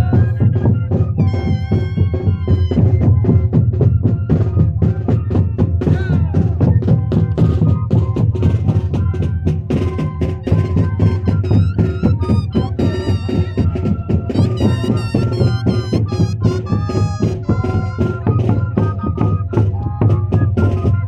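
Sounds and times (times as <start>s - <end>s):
dense drum beat: 0.0s - 21.0s
duct flutes holding sustained notes: 0.0s - 21.0s.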